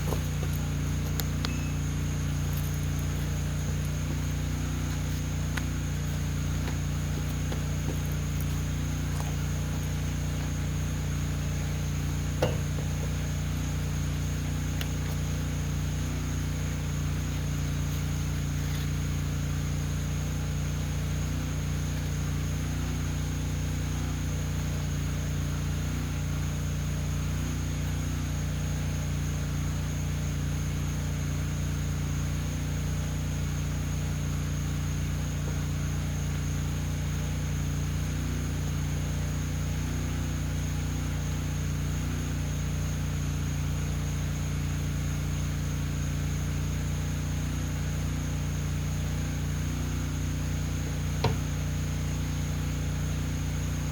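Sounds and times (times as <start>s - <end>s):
high insect drone: 0.0s - 53.9s
low motor hum: 0.0s - 53.9s.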